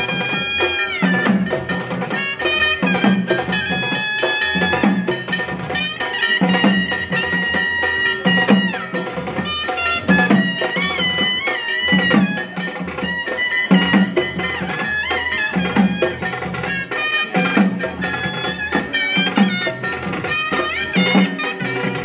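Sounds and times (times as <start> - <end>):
barrel drums beaten: 0.0 - 22.0
shehnai melody: 0.0 - 22.0.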